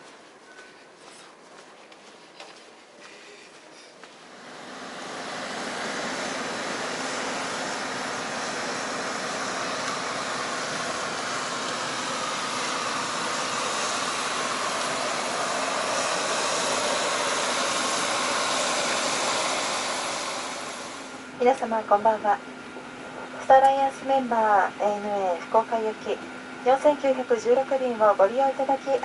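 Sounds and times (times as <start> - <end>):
turboprop turbine rushing whine: 4.2 - 29.0.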